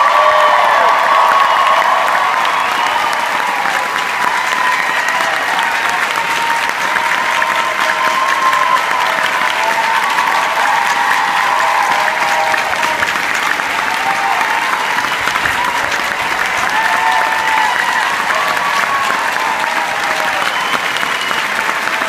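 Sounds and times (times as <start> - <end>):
audience applauding: 0.0 - 22.0
audience cheering: 0.0 - 22.0.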